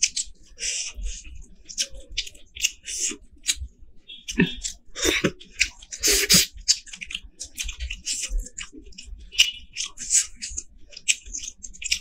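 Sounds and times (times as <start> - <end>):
fingers squishing through rice: 0.0 - 12.0
wet chewing and lip-smacking: 0.0 - 12.0.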